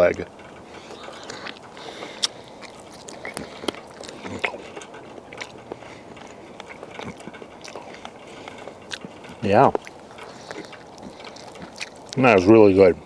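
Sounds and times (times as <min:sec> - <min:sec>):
person chewing meat off bone: 0:00.6 - 0:12.2.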